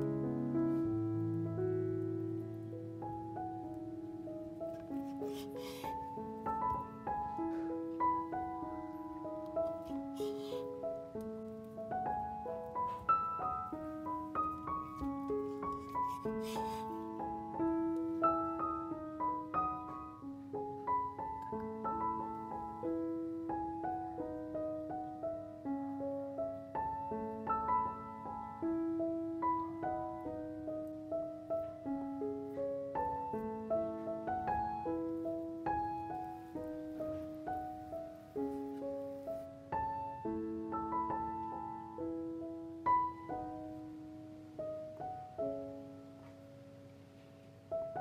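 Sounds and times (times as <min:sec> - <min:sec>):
soft piano music: 0:00.0 - 0:48.0.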